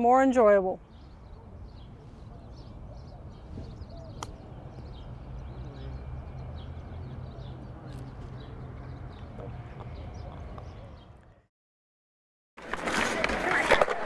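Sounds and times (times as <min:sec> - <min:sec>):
birds chirping: 0:00.0 - 0:11.5.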